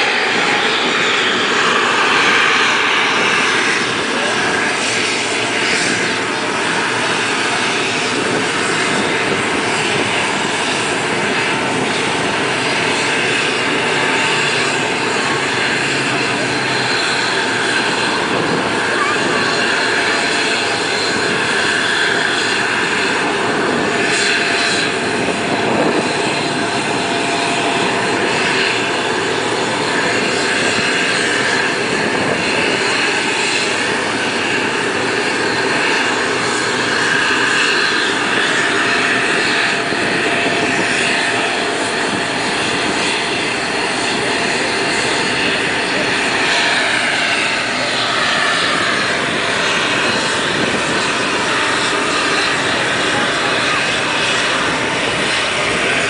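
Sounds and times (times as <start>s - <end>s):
military aircraft engines droning: 0.0s - 56.0s.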